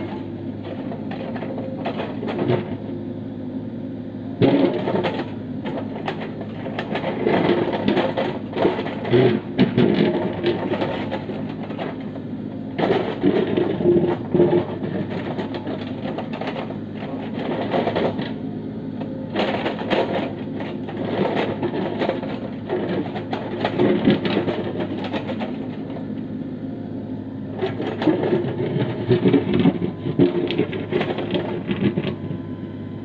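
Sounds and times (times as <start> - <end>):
excavator clattering and scraping rock: 0.0 - 3.0, 4.4 - 26.6, 27.4 - 32.6
diesel engine running: 0.0 - 33.0.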